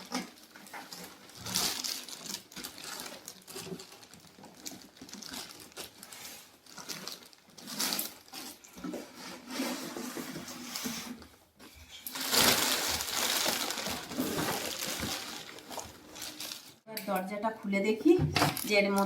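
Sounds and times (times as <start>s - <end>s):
packaging rustling and crinkling: 0.0s - 16.9s.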